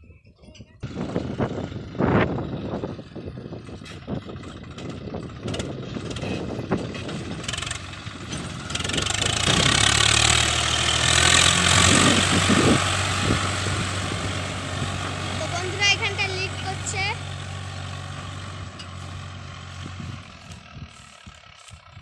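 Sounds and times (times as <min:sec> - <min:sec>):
tractor diesel engine running: 0:00.8 - 0:22.0.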